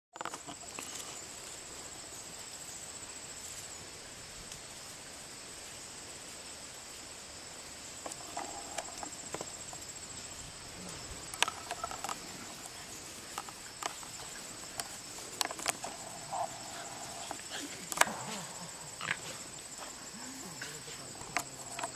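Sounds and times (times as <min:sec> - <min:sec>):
rustles and clicks: 0:00.2 - 0:03.8, 0:07.9 - 0:21.9
high-pitched insect chorus: 0:00.2 - 0:21.9.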